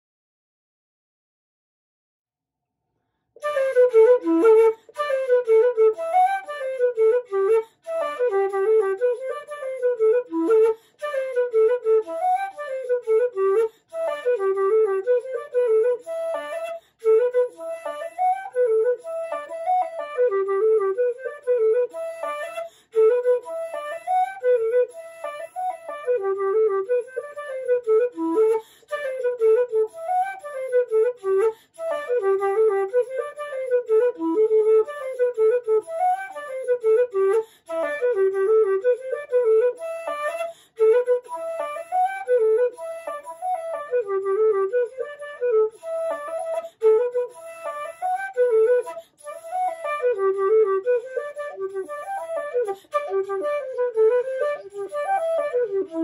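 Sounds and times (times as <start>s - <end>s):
wooden flute melody: 3.4s - 56.0s.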